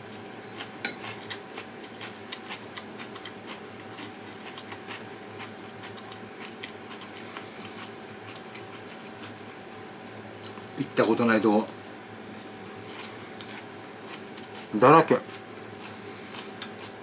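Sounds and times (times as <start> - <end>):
steady low hum: 0.0 - 17.0
chewing with mouth clicks: 0.4 - 10.6, 12.6 - 17.0.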